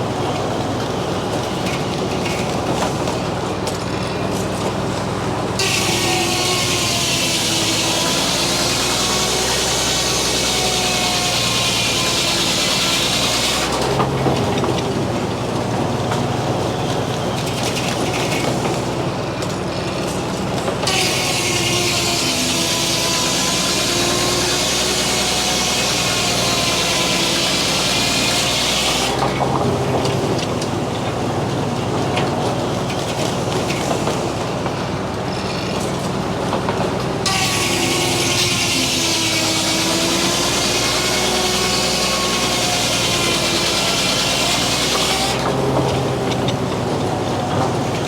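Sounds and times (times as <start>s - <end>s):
circular saw cutting log: 0.0s - 48.0s
sawmill humming: 0.0s - 48.0s.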